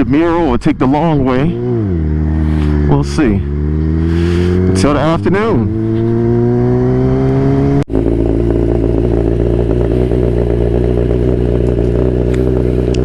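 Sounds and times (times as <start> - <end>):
motorcycle engine running: 1.0 - 13.0.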